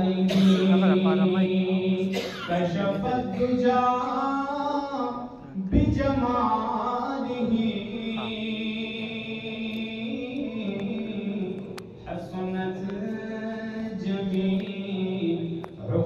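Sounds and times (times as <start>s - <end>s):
man chanting through microphone: 0.0s - 16.0s.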